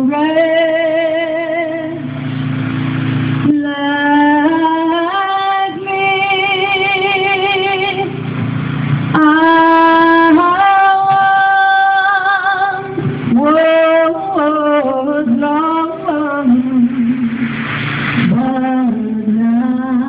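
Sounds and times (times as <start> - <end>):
woman singing with vibrato: 0.0 - 2.4, 3.2 - 20.0.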